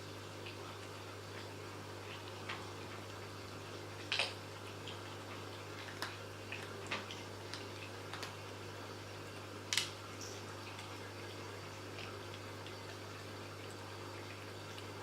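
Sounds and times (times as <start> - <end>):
kittens chewing and licking: 0.1 - 15.0.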